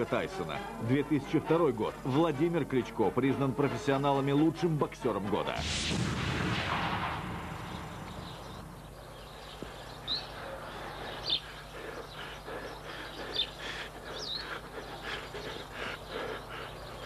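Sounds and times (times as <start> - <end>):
birds chirping: 0.0 - 5.6, 6.8 - 17.0.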